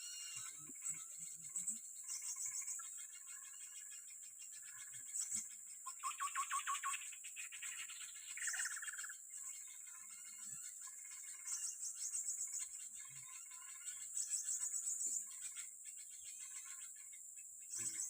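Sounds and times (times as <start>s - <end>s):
faint lower insect chirps: 0.0s - 18.0s
insects chirping high-pitched: 0.0s - 18.0s.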